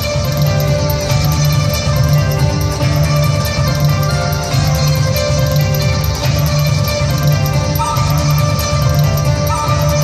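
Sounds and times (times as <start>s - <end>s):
dance music with low beat: 0.0s - 10.0s.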